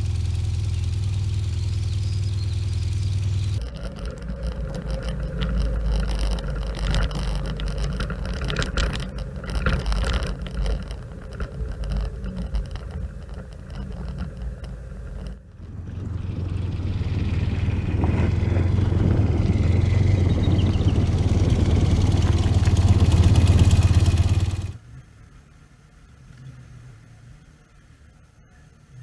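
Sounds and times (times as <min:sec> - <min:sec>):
motorcycle engine running: 0:00.0 - 0:24.8
wind and road noise: 0:00.0 - 0:28.2.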